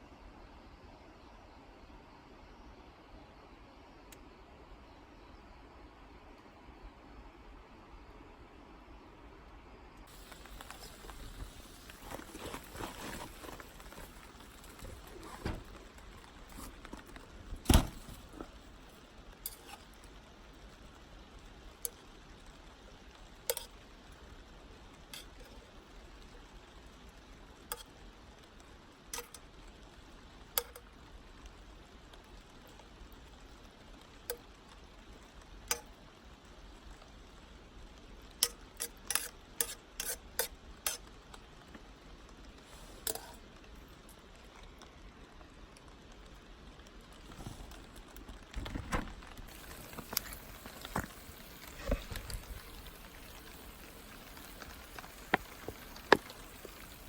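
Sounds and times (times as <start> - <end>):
campfire crackling and popping: 10.1 - 57.0.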